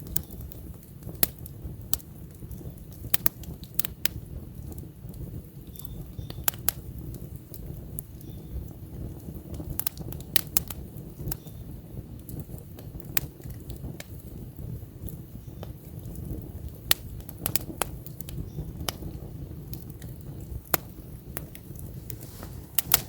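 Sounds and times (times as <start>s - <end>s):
campfire burning and crackling: 0.0s - 23.0s.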